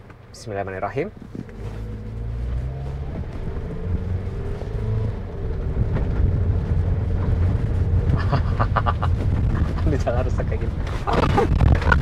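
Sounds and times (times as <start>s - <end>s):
car driving on rough gravel road: 0.0s - 12.0s.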